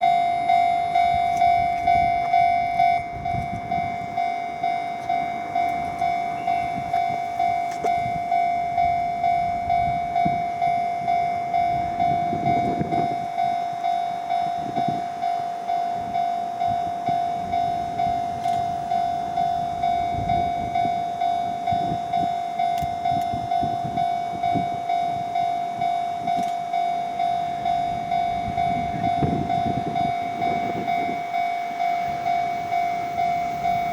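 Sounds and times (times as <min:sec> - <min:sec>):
level crossing alarm ringing: 0:00.0 - 0:33.9.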